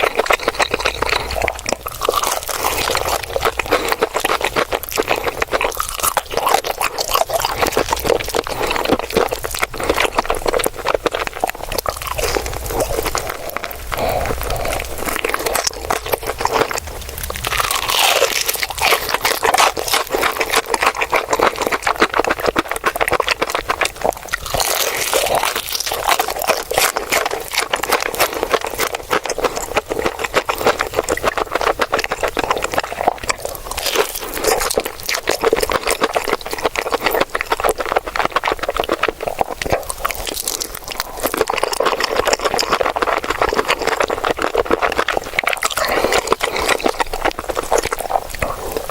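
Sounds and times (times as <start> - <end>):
crunching fried chicken: 0.0 - 48.9.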